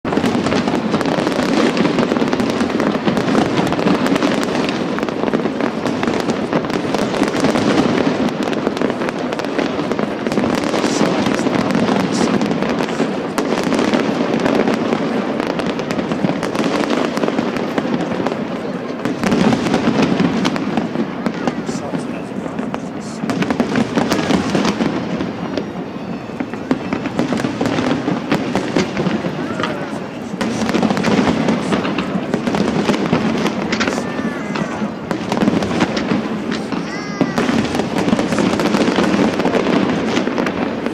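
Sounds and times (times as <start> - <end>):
fireworks crackling and popping: 0.0 - 40.9.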